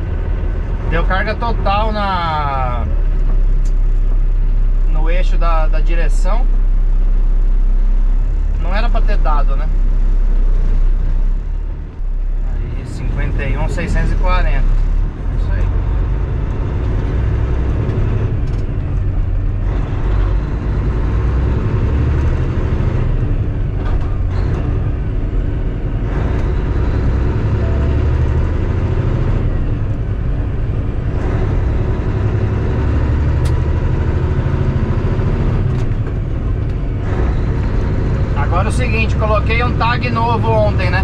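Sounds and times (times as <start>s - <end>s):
diesel engine drone: 0.0s - 41.0s.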